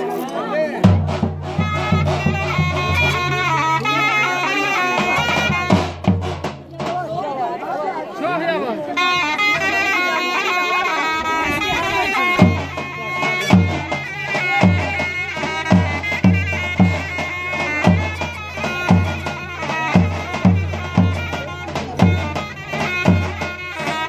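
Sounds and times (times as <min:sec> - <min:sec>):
shrill reedy pipe melody: 0:01.4 - 0:06.0, 0:09.0 - 0:24.0.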